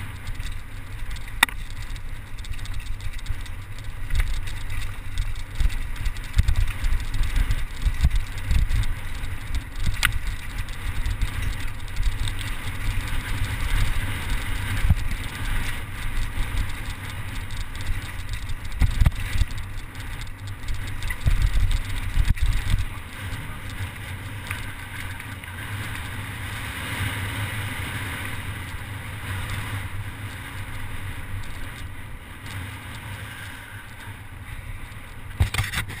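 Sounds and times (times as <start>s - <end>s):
wind buffeting microphone: 0.0s - 33.1s
tyres rolling on gravel: 0.0s - 35.5s
bike knocking and rattling: 0.0s - 36.0s.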